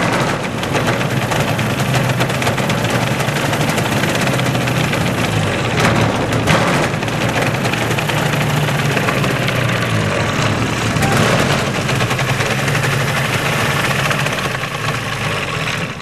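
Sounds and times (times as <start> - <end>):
small propeller engine running: 0.0 - 16.0.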